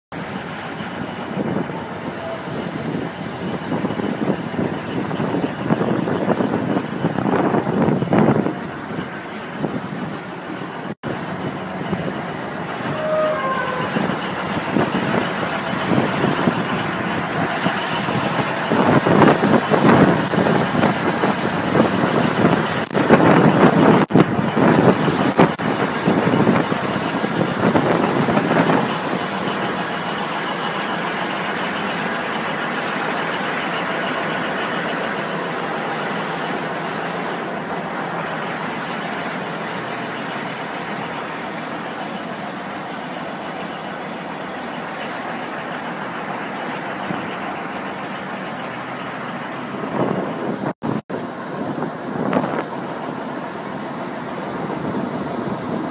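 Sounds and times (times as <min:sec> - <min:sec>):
excavator diesel engine running: 0:00.1 - 0:55.9.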